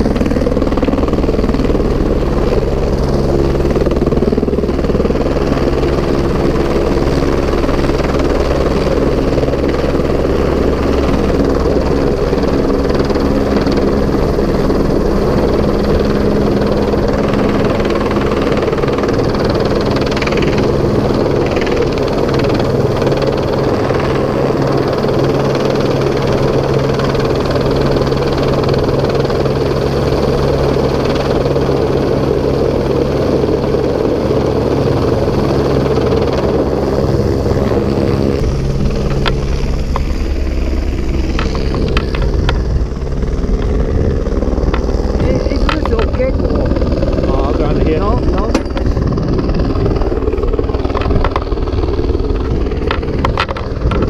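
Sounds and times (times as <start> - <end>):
helicopter rotor beat: 0.0 - 54.0
helicopter turbine running: 0.0 - 54.0.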